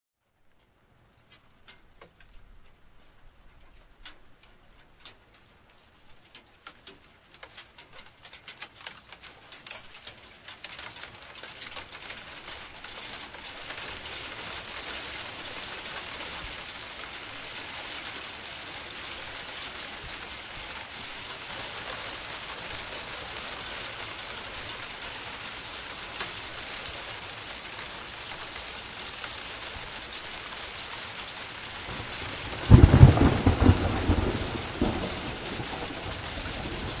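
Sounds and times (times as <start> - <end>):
rain falling on a surface: 0.2 - 37.0.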